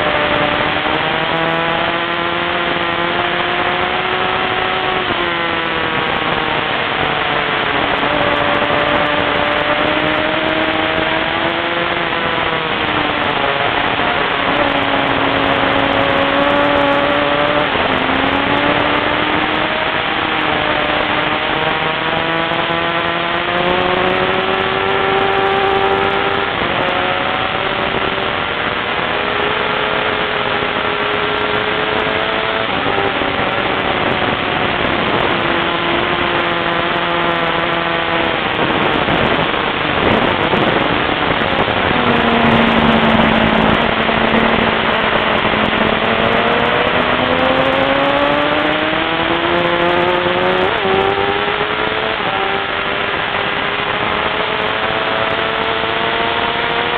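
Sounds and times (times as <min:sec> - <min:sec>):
motorcycle engine: 0:00.0 - 0:56.9
wind rush: 0:00.0 - 0:56.9.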